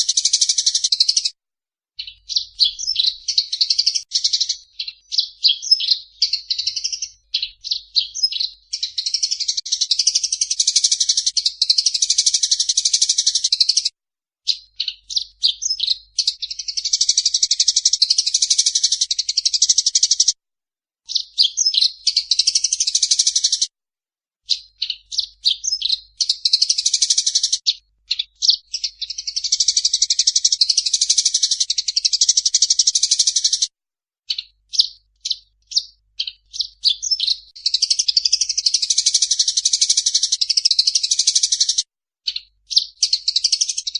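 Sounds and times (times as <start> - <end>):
sparrows chirping harshly: 0.0 - 1.4, 2.0 - 20.4, 21.0 - 23.7, 24.4 - 33.7, 34.3 - 43.9.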